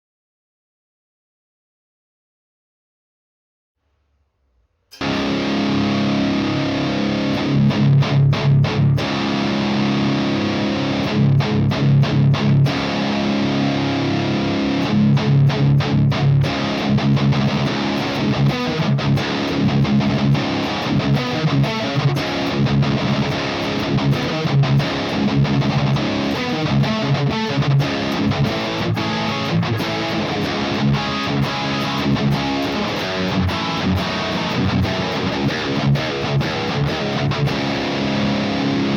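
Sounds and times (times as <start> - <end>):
distorted electric guitar riffs: 4.9 - 38.9.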